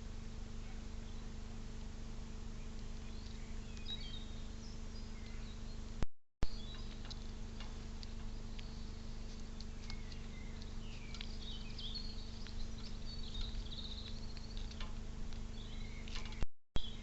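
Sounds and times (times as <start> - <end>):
small birds chirping: 0.0 - 1.4, 2.4 - 17.0
steady low hum: 0.0 - 17.0.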